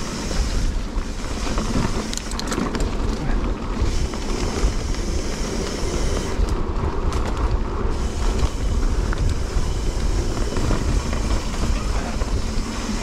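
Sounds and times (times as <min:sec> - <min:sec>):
bike rattling: 0:00.0 - 0:13.0
bike tyres rumbling on dirt: 0:00.0 - 0:13.0
wind buffeting microphone: 0:00.0 - 0:13.0.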